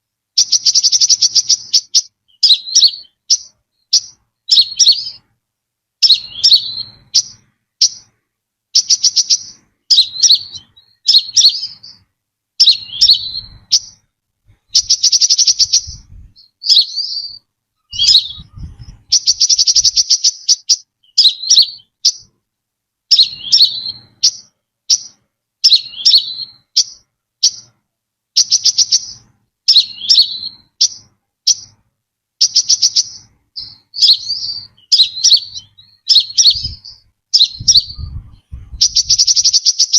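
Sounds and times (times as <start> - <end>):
sunbird singing trills: 0.4 - 5.2, 6.0 - 8.1, 8.8 - 12.0, 12.6 - 22.3, 23.1 - 27.7, 28.4 - 31.8, 32.4 - 39.9.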